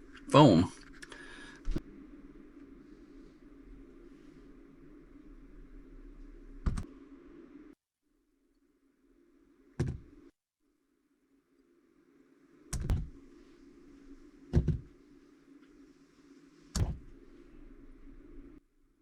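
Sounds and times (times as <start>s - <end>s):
low steady hum: 0.0s - 10.3s, 11.0s - 19.0s.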